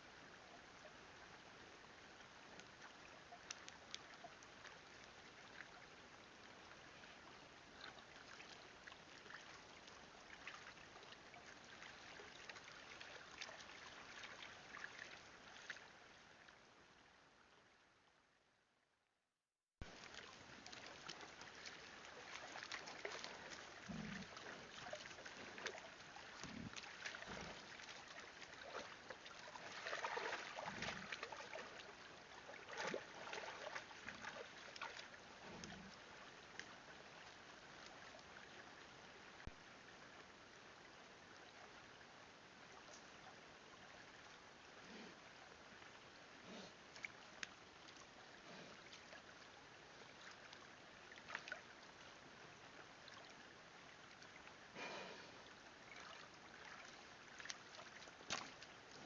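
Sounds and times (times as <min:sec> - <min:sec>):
stream water running: 0:00.0 - 0:18.5, 0:19.8 - 0:59.0.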